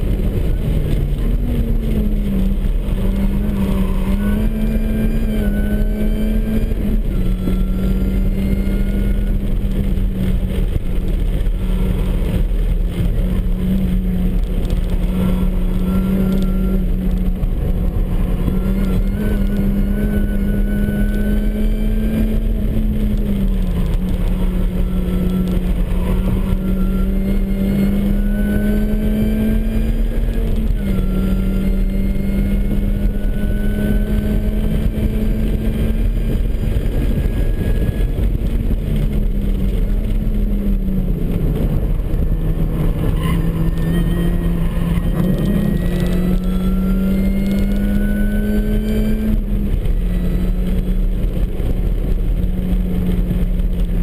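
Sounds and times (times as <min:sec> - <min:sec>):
car engine drone: 0:00.0 - 0:54.0
supercharger whine: 0:00.0 - 0:54.0.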